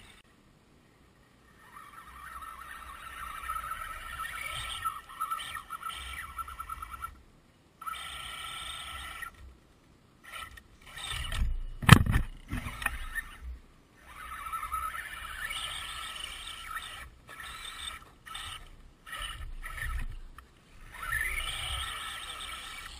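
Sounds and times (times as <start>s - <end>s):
rc car motor and gear whine: 0.0s - 0.2s, 1.4s - 7.2s, 7.8s - 9.5s, 10.2s - 22.9s.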